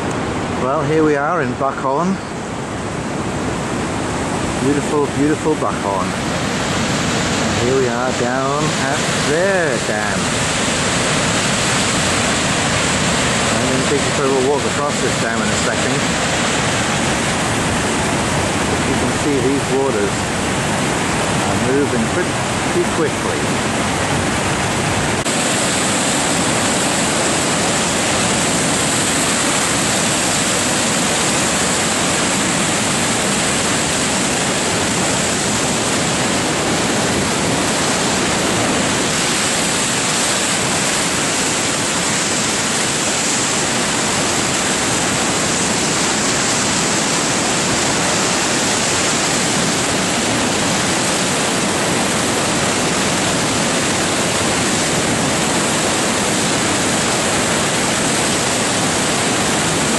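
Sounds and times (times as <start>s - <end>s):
floodwater rushing: 0.0s - 59.9s.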